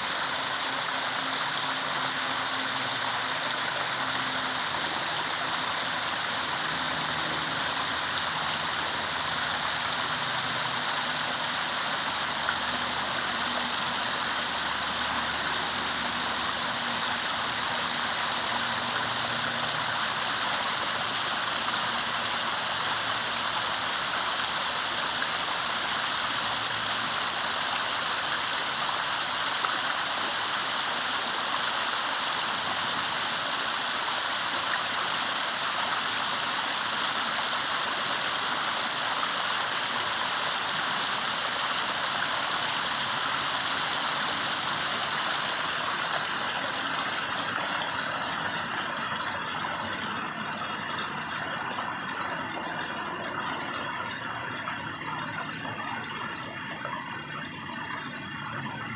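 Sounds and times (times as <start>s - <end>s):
waterfall pouring over rocks: 0.0s - 58.9s.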